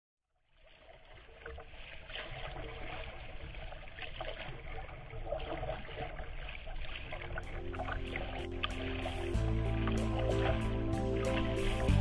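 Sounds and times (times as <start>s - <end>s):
water splashing against kayak bow: 0.5s - 12.0s.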